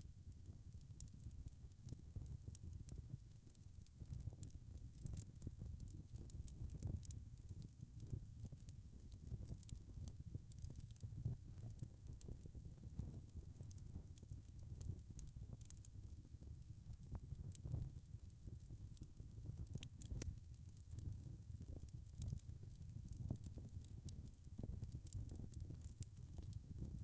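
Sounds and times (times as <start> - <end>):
wood fire crackling: 0.1 - 27.0.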